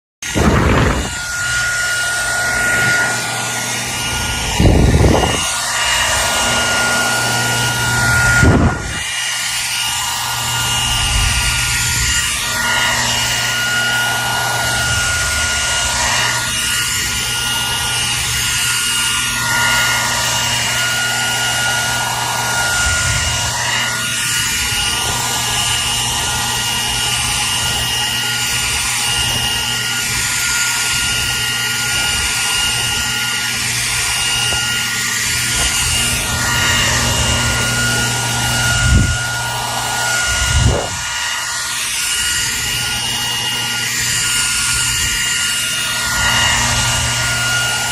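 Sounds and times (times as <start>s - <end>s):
hair dryer running: 0.2s - 47.9s.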